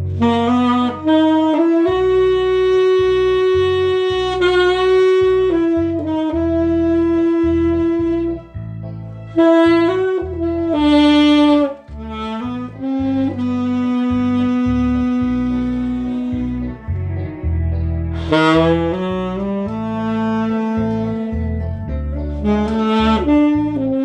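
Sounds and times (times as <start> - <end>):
backing track: 0.0 - 24.0
tenor saxophone melody: 0.0 - 24.0.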